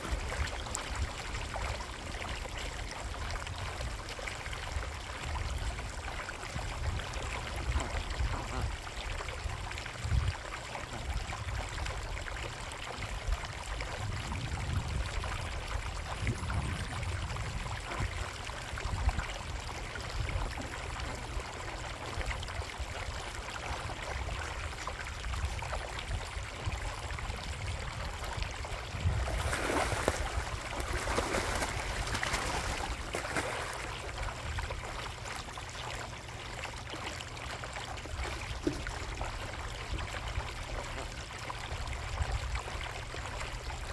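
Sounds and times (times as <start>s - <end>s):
pond water trickling: 0.0s - 43.9s.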